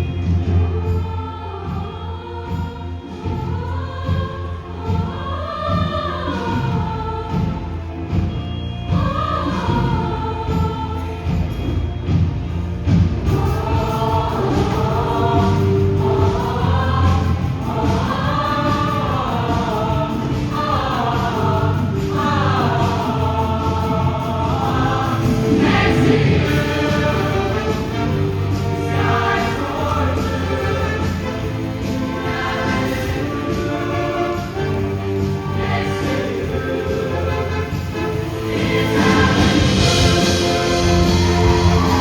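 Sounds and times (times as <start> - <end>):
choir singing in harmony: 0.0 - 42.0.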